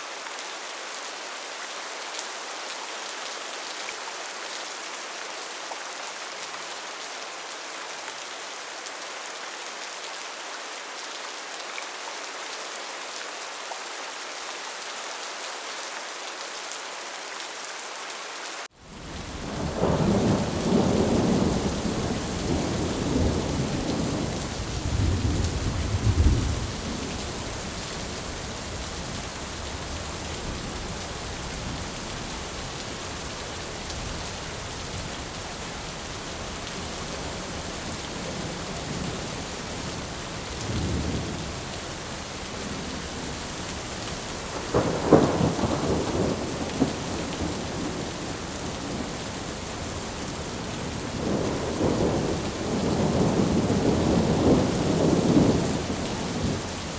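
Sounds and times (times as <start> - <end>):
rain on a tin roof: 0.0 - 56.9.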